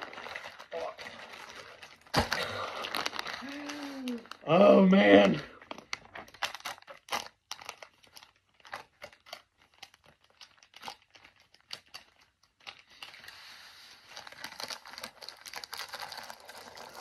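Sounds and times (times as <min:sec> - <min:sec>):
plastic mailer bag tearing: 0:00.0 - 0:13.3, 0:14.0 - 0:17.0
plastic crinkling: 0:00.0 - 0:17.0.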